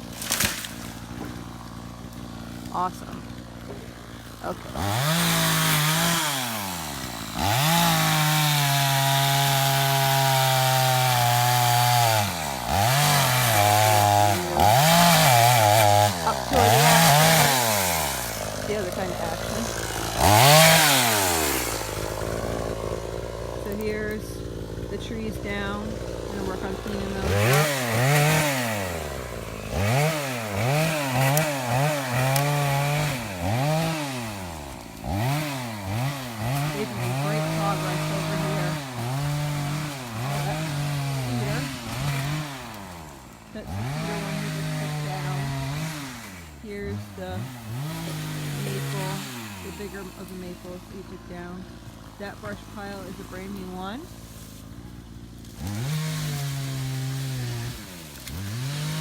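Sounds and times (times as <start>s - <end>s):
chainsaw cutting tree: 0.0s - 59.0s.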